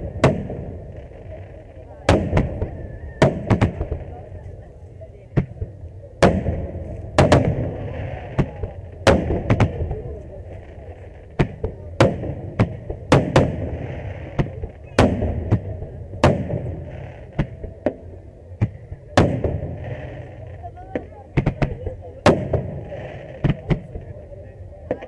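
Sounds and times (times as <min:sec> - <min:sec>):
low rumbling echo: 0:00.0 - 0:25.0.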